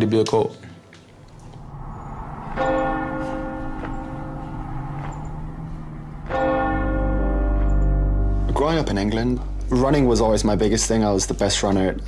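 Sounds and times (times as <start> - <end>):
deep low rumble: 1.1 - 11.4
large bell ringing: 1.2 - 11.4.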